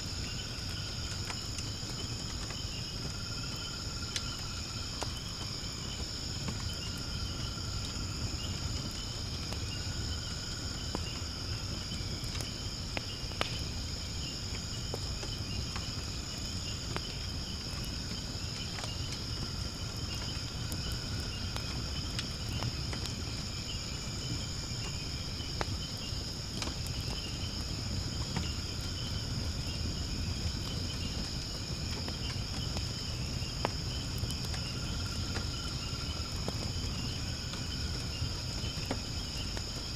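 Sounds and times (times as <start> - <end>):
firewood crackling and popping: 0.0 - 39.9
insects chirring: 0.0 - 39.9
low rumble of flames: 0.0 - 39.9.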